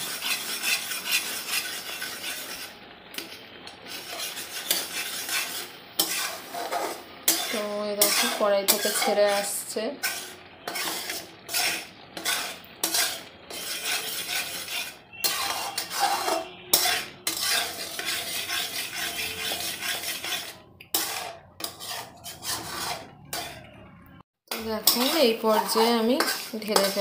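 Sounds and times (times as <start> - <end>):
metal spatula scraping metal pan: 0.0 - 27.0.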